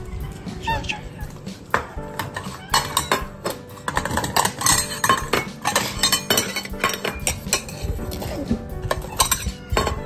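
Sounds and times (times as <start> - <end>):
metal bowls clinking with kibble: 1.3 - 10.0.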